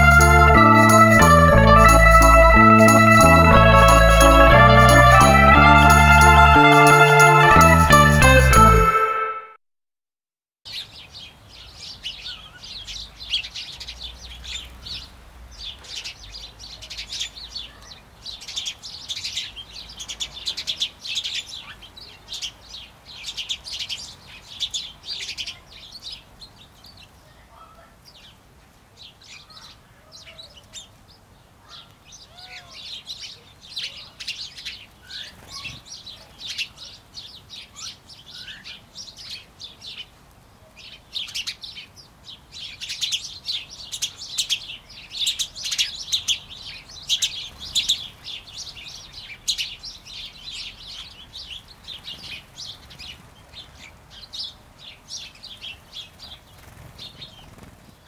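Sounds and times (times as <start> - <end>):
sparrows chirping: 0.0 - 8.0, 10.7 - 28.4, 29.0 - 40.2, 40.8 - 58.0.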